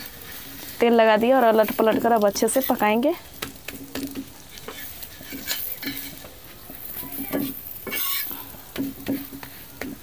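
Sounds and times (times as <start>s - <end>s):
metal spatula scraping a pan: 0.0s - 3.0s, 3.8s - 9.7s
papad sizzling in oil: 0.0s - 10.0s.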